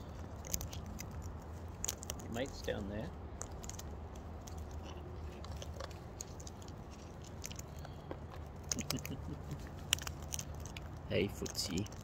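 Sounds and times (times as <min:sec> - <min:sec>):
beak cracking and crunching feed: 0:00.0 - 0:12.0
low steady hum: 0:00.0 - 0:12.0.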